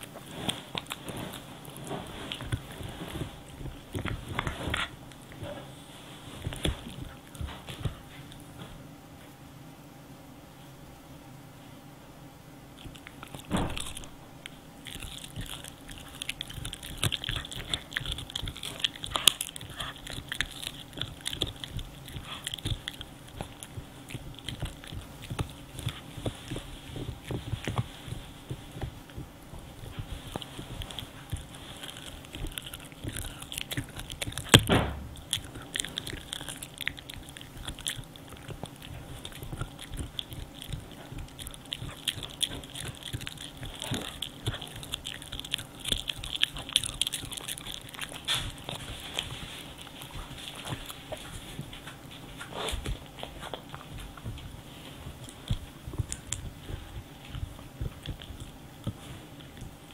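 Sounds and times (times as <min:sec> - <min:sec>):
chew cracking loudly: 0:00.0 - 0:05.5, 0:12.8 - 0:59.9
dog crunching a hard chew: 0:00.0 - 0:08.6, 0:12.8 - 0:59.9
wet chewing clicks: 0:00.0 - 0:08.7, 0:12.7 - 0:59.9.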